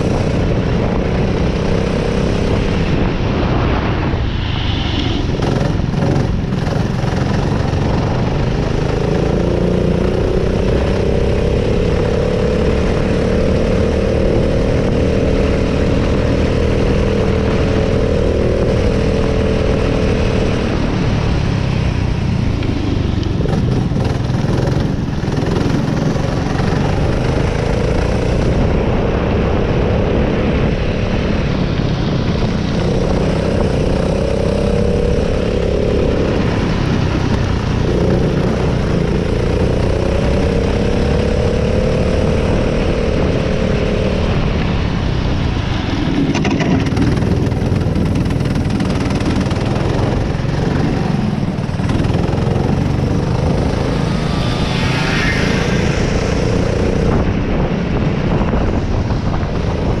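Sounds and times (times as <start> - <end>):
steady rush of noise: 0.0 - 60.0
kart engine accelerating: 5.4 - 58.2.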